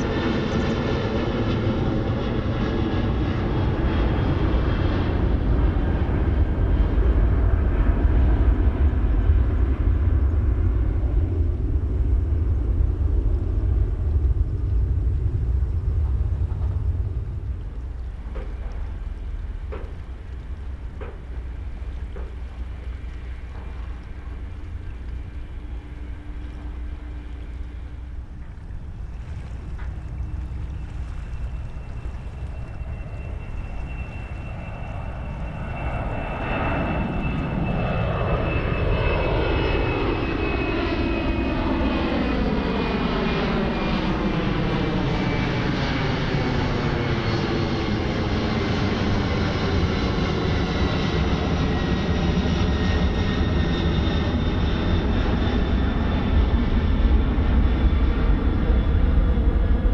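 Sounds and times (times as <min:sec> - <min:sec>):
jet airliner taking off: 0:00.0 - 0:59.9
jet engine whine falling in pitch: 0:00.0 - 0:59.9.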